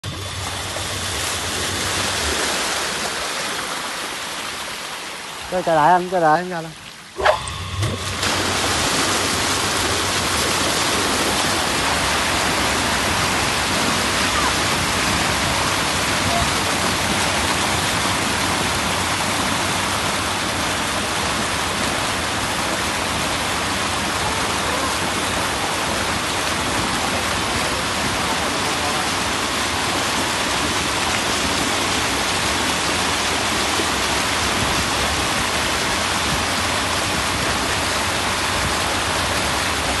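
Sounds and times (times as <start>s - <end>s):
water gushing from pump outlet: 0.0s - 40.0s.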